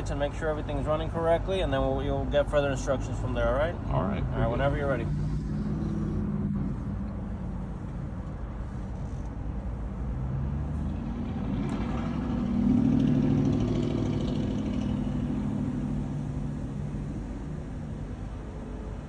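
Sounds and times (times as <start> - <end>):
car engine at low speed: 0.0 - 19.0.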